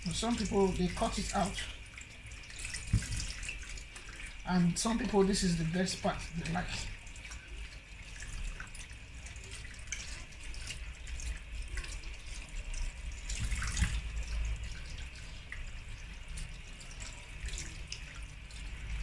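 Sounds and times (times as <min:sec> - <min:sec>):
tap water running into sink: 0:00.0 - 0:19.0
water splashing and sloshing: 0:00.0 - 0:19.0.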